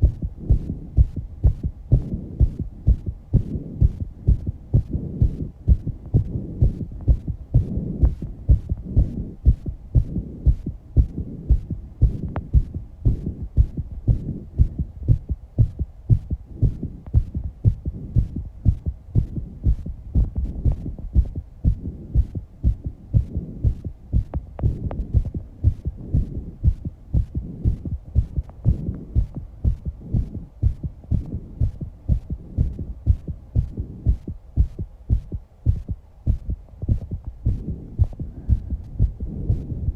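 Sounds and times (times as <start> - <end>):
fast heartbeat: 0.0 - 39.9.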